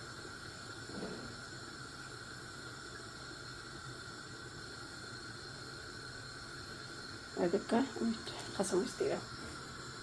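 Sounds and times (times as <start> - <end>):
faint kitchen hiss: 0.0 - 10.0.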